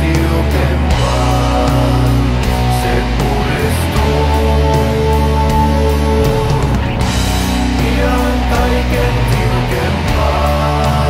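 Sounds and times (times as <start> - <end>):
heavy rock music with electric guitars: 0.0 - 11.0.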